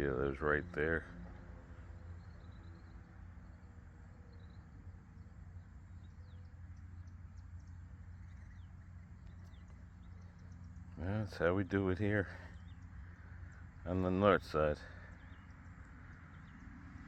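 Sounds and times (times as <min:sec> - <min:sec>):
faint bird chirps: 0:00.0 - 0:17.0
steady low hum: 0:00.0 - 0:17.0.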